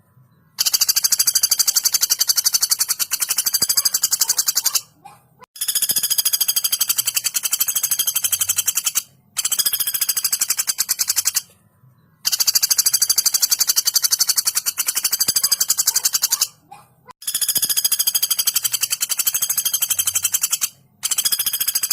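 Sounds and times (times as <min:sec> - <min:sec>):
woodpecker rapid trilled calls: 0:00.6 - 0:11.5, 0:12.2 - 0:21.9.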